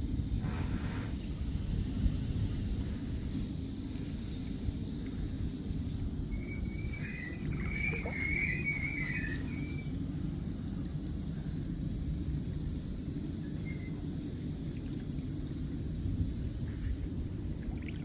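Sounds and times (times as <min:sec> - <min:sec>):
wind on microphone: 0:00.0 - 0:10.8, 0:11.5 - 0:18.0.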